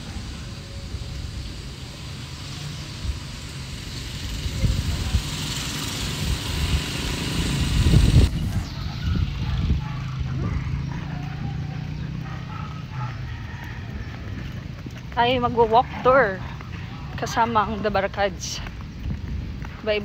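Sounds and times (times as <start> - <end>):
wind rushing over microphone: 0.0 - 20.0
motorcycle engine running: 1.4 - 20.0.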